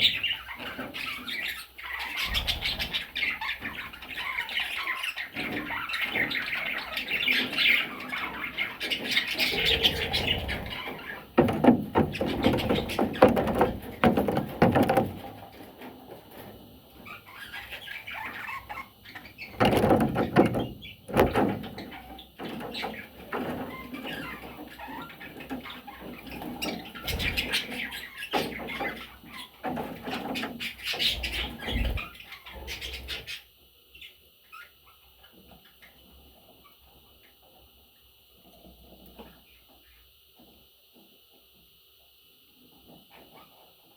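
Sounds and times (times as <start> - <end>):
budgerigars chirping and chattering: 0.0 - 15.7, 16.9 - 37.5.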